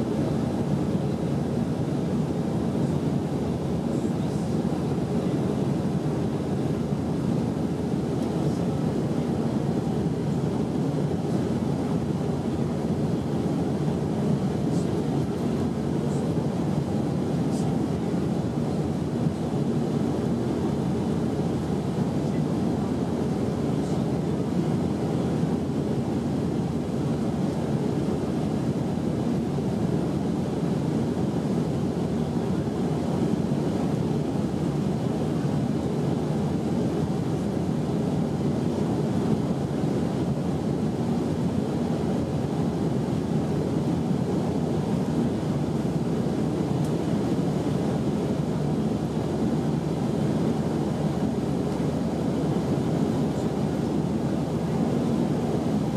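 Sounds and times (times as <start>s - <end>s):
airplane cabin rumble: 0.0s - 55.9s.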